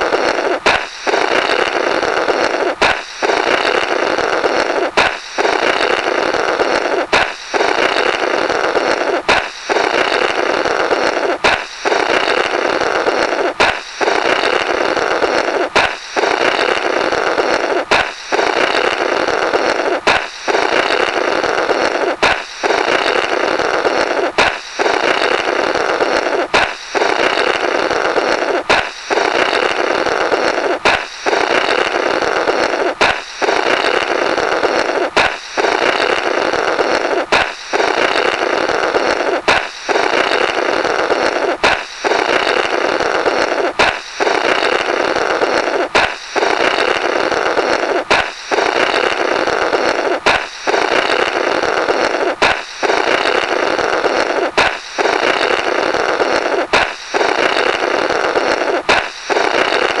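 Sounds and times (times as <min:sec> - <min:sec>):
balloon pop: 0:00.0 - 0:29.8, 0:30.4 - 0:42.8, 0:43.4 - 0:49.2, 0:49.8 - 0:51.3, 0:52.0 - 0:55.6, 0:56.3 - 0:57.8, 0:58.4 - 1:00.0
buzzy rasp through rubber: 0:00.0 - 1:00.0.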